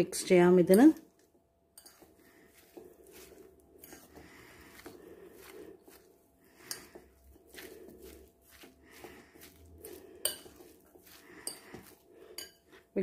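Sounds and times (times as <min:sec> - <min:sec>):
hand squishing mashed potato: 0:00.6 - 0:13.0.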